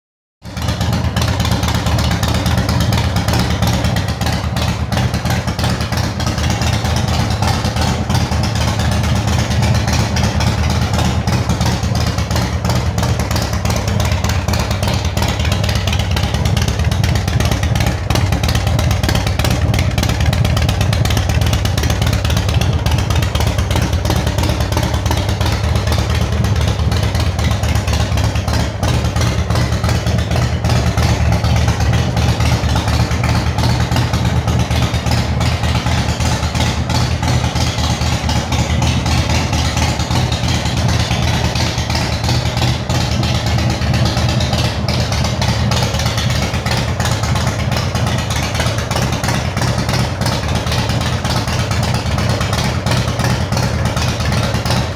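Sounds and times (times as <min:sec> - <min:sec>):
motorcycle engine idling: 0:00.4 - 0:54.9.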